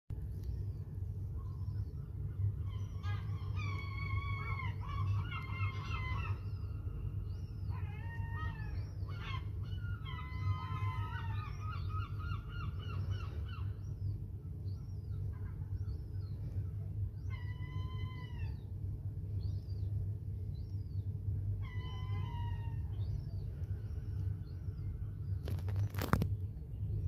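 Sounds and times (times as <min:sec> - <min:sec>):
low rumble: 0:00.1 - 0:27.0
gulls calling: 0:01.3 - 0:27.0.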